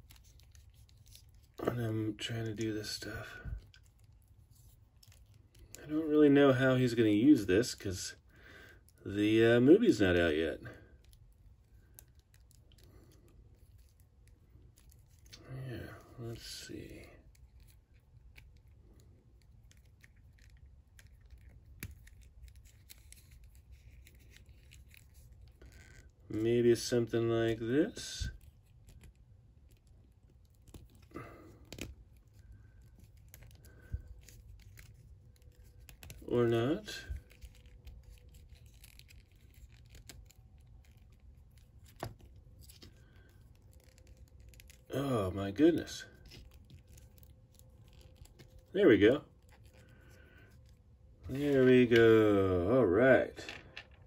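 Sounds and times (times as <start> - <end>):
fingers fiddling with plastic figure: 0.0 - 1.6, 2.3 - 5.9, 10.9 - 26.5, 27.2 - 52.4.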